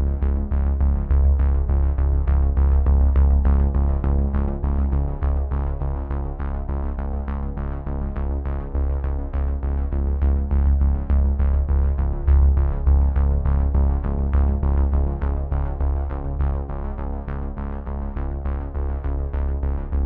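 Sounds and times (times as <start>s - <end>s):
sustained bass: 0.0s - 20.0s.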